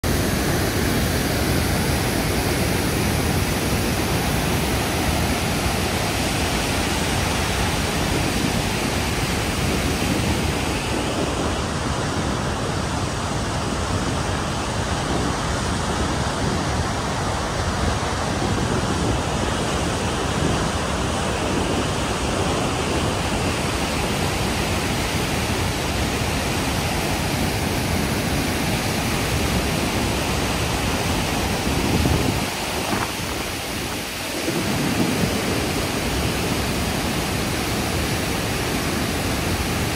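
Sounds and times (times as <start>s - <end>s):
river rushing through rapids: 0.0s - 39.9s.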